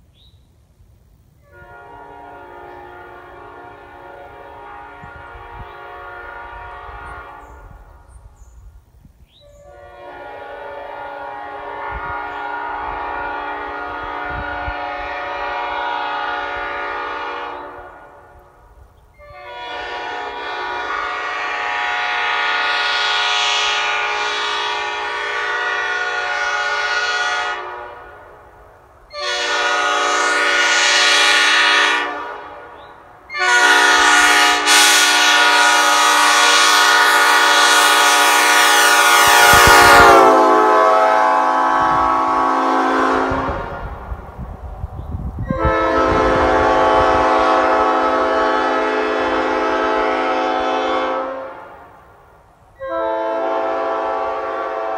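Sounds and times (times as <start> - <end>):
train horn blasts: 1.4 - 8.3, 9.4 - 54.9.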